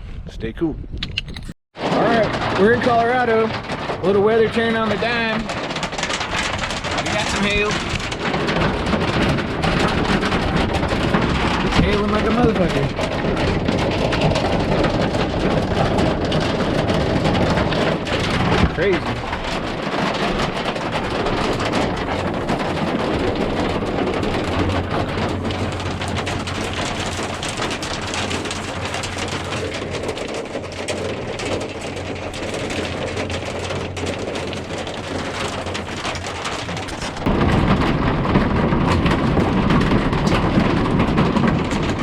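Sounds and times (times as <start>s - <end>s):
hailstones pelting down: 1.8s - 42.0s.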